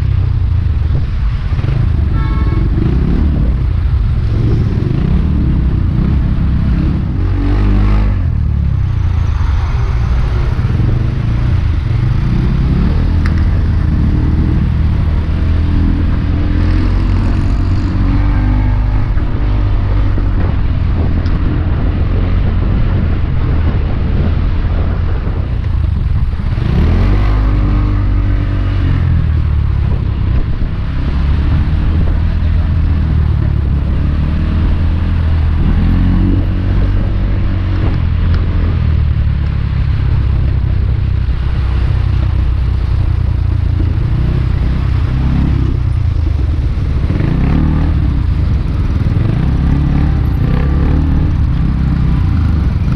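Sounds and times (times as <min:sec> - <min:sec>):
road and wind noise: 0:00.0 - 0:52.9.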